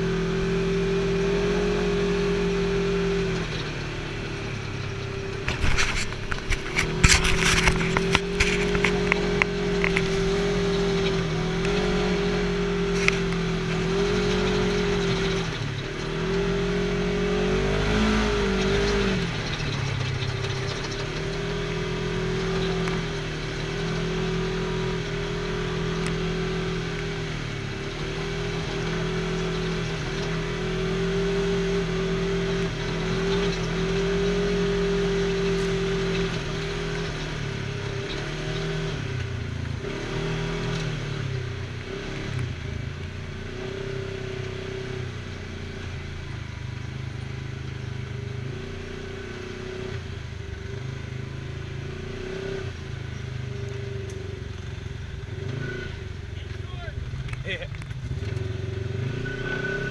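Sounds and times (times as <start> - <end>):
utility vehicle engine droning: 0.0 - 59.9.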